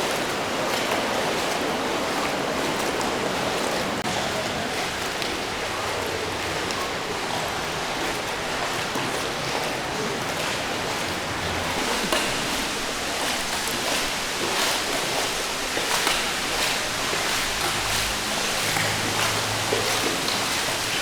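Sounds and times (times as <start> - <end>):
river and waterfall rushing: 0.0 - 21.0.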